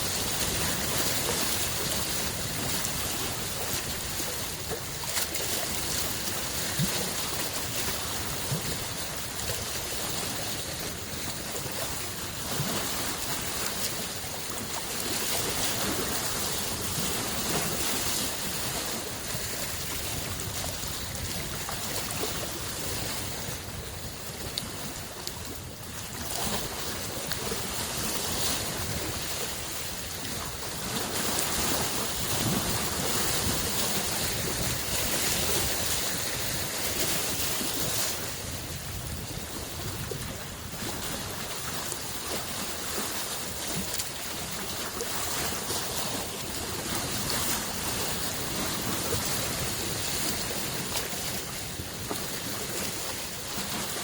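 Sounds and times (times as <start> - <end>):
lake waves washing: 0.0 - 54.0.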